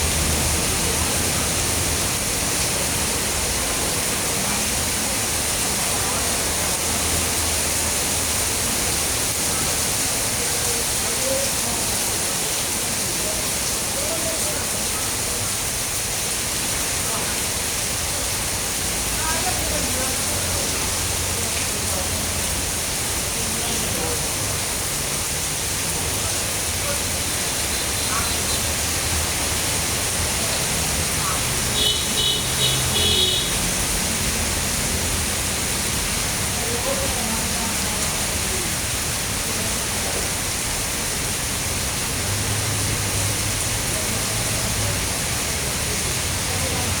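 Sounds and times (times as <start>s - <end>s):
faint voices: 0.0s - 47.0s
heavy rain pouring: 0.0s - 47.0s.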